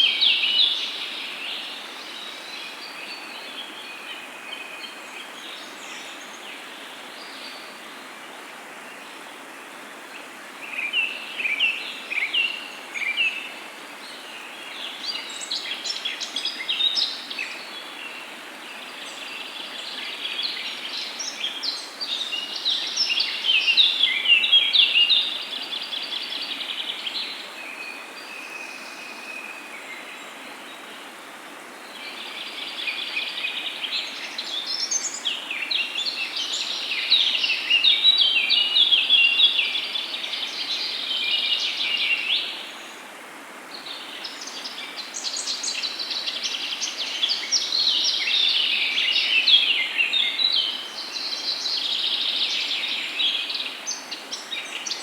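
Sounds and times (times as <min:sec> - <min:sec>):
flowing water hiss: 0:00.0 - 0:55.0.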